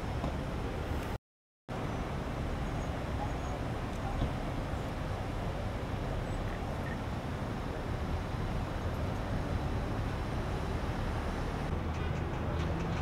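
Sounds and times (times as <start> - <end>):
street noise: 0.0 - 13.0
vehicle engines idling: 1.7 - 13.0.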